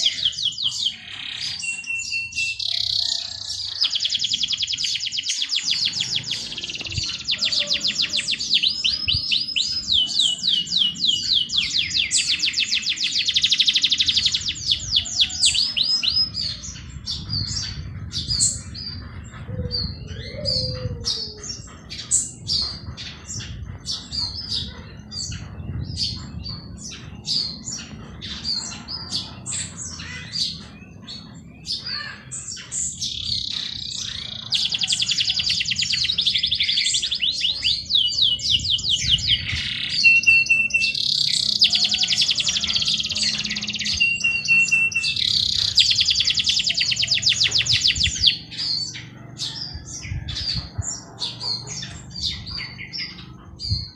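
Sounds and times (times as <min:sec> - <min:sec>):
bird singing trilled phrases: 0:00.0 - 0:53.9
songbirds chirping: 0:00.0 - 0:53.9.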